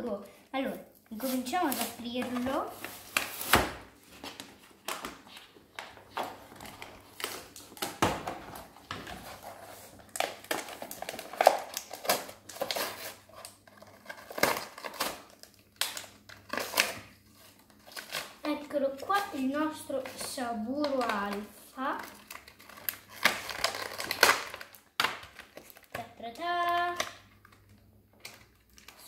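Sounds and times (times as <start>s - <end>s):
plastic packaging crinkling: 1.1s - 29.0s.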